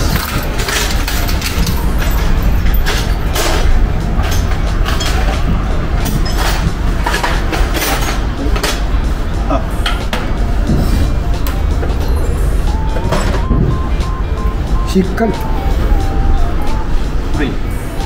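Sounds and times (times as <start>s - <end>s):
low rumble of workshop machinery: 0.0s - 18.0s.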